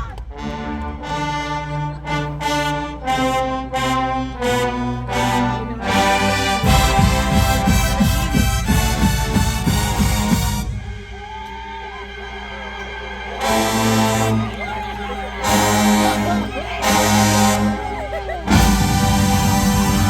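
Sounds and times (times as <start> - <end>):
brass band playing held chords: 0.0 - 20.0.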